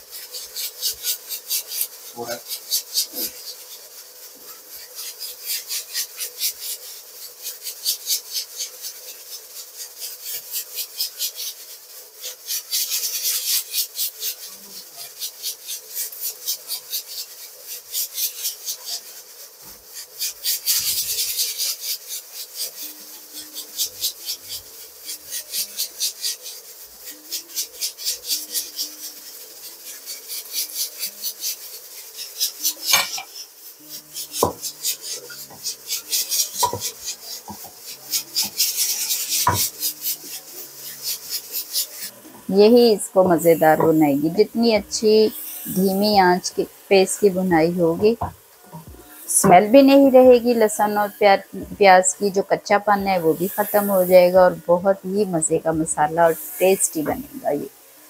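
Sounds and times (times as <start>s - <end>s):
paste sizzling in a pot: 0.0s - 58.0s.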